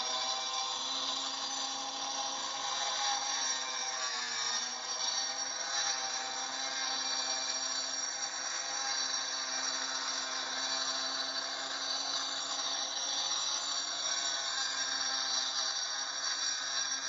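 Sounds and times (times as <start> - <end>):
angle grinder cutting brick: 0.0 - 17.0.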